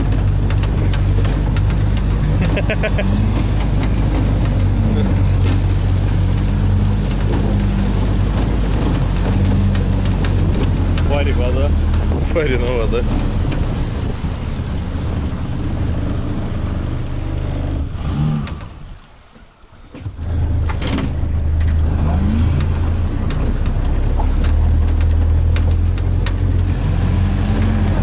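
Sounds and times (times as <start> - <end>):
diesel engine under load: 0.0 - 28.0.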